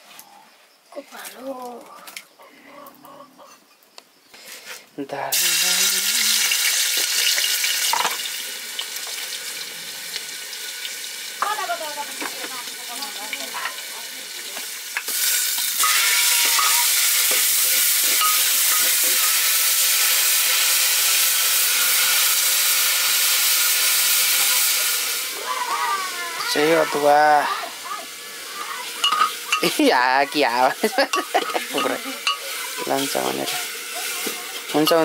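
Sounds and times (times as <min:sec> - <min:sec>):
food sizzling in hot oil: 0:04.4 - 0:35.0.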